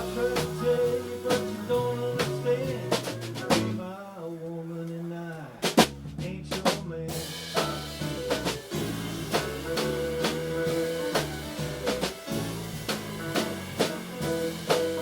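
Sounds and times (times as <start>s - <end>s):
acoustic band playing: 0.0s - 4.0s, 5.6s - 15.0s.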